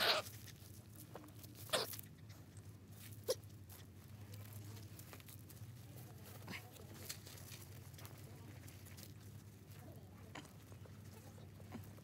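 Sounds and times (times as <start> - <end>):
puppies scrabbling in gravelly sand: 0.0 - 12.0.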